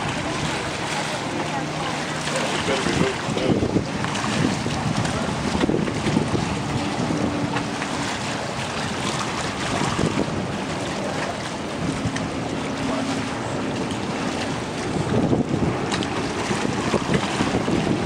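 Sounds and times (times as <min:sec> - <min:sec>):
waves lapping and splashing: 0:00.0 - 0:18.0
wind buffeting microphone: 0:00.0 - 0:18.0.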